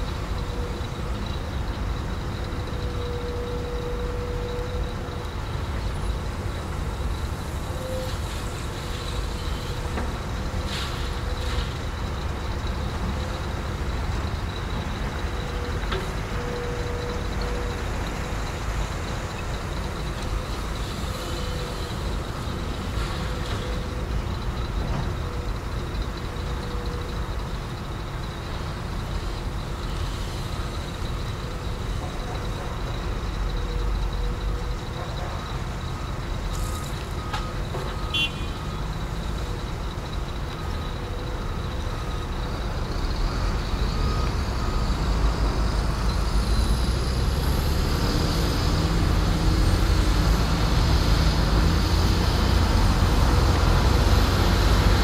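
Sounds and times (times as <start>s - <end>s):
heavy diesel engines rumbling: 0.0s - 55.0s.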